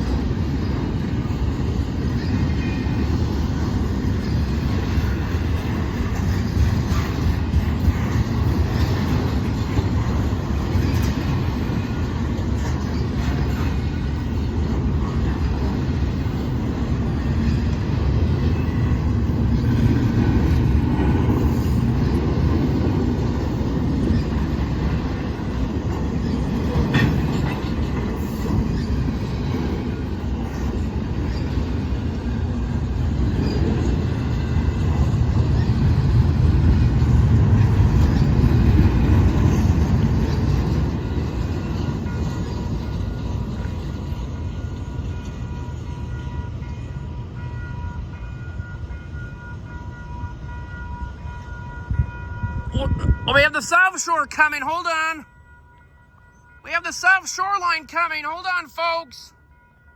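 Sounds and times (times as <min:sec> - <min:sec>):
train rolling past: 0:00.0 - 0:59.9.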